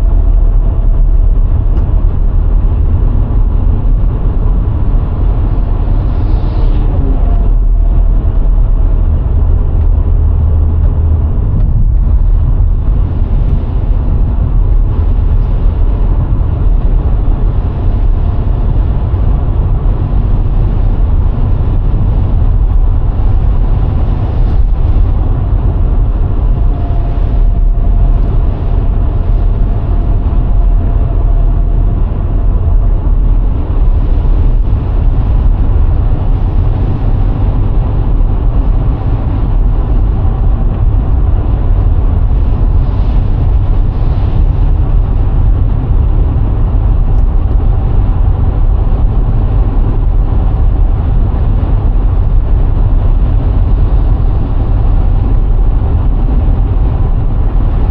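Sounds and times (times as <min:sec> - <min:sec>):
car driving noise: 0:00.0 - 0:57.9
faint steady whine: 0:00.0 - 0:57.9.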